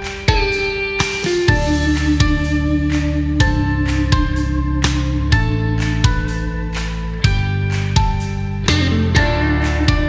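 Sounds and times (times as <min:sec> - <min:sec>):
guitar music with beat: 0:00.0 - 0:10.0.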